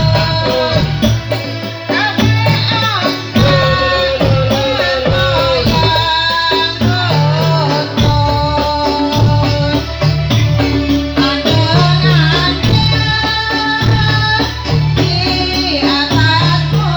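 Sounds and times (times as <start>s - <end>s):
folk dance melody with bending notes: 0.0s - 16.9s
jingling rattle percussion: 0.0s - 16.9s
stepping bass line: 0.0s - 16.9s.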